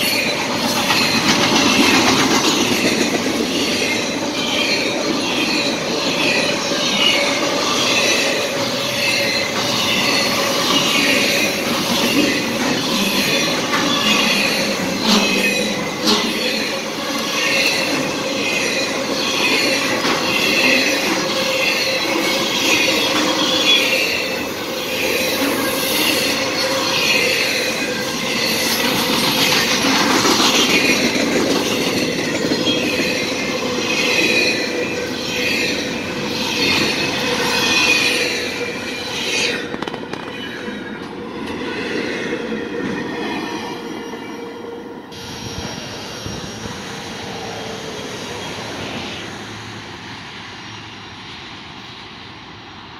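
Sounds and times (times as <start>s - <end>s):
train wheels clattering on rails: 0.0s - 44.3s.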